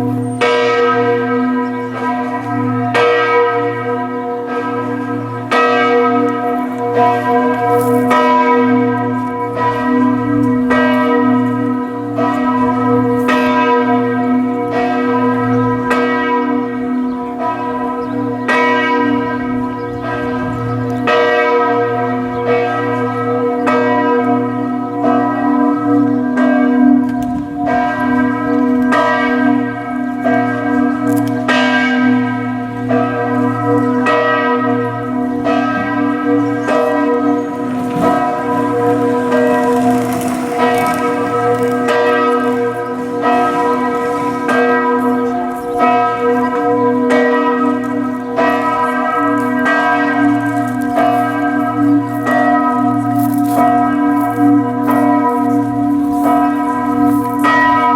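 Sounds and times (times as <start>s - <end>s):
church bells ringing: 0.0s - 57.9s.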